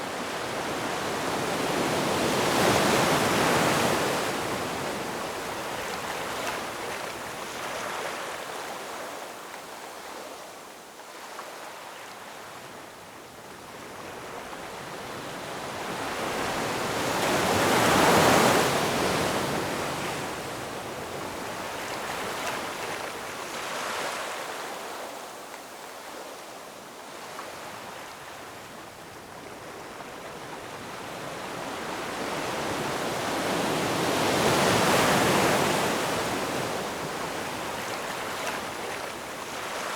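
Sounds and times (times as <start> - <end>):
ocean waves breaking on shore: 0.0 - 9.8, 13.8 - 39.9.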